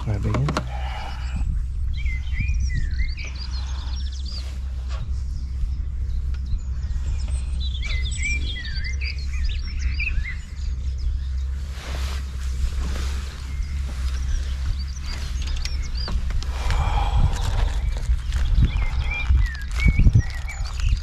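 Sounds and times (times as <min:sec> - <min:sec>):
songbirds chirping: 0:00.0 - 0:21.0
steady low rumble: 0:00.0 - 0:21.0.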